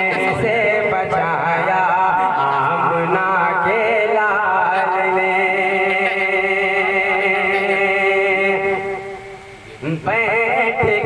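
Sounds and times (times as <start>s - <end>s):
man singing: 0.0s - 11.0s
steady drone note: 0.0s - 11.0s.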